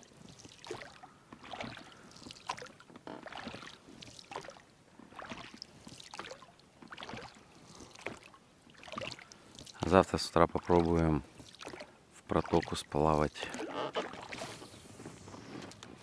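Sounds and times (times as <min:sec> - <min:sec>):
oars splashing in water: 0:00.0 - 0:16.0.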